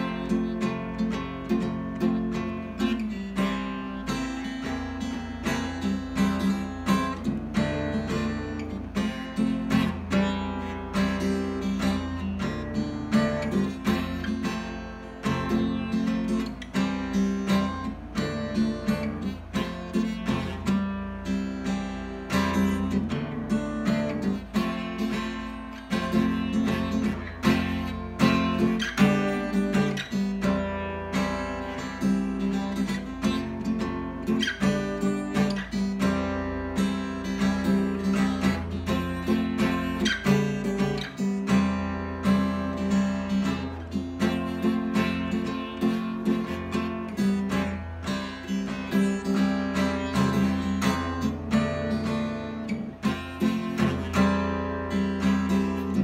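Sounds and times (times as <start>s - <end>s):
acoustic guitar playing chords: 0.0s - 56.0s.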